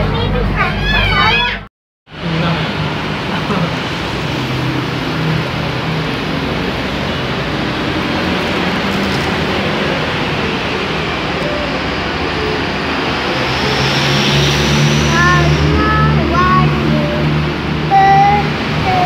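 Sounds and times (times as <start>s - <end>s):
rushing background noise: 0.0s - 19.0s.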